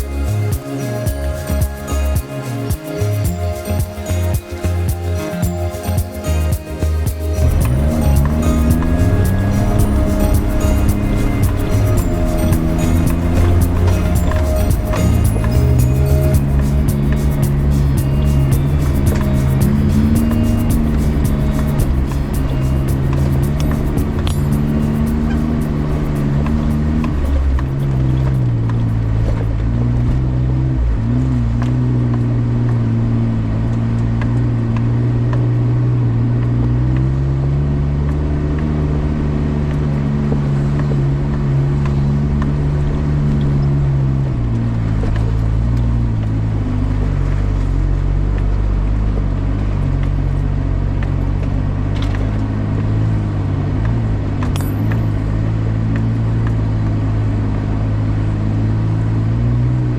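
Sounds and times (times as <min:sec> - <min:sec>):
car engine running while driving: 0:04.8 - 0:59.9.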